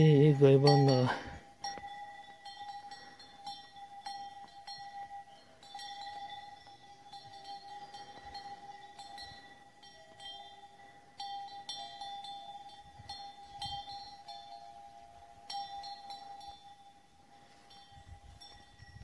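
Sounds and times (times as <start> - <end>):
cow bell clanking: 0.0 - 19.0.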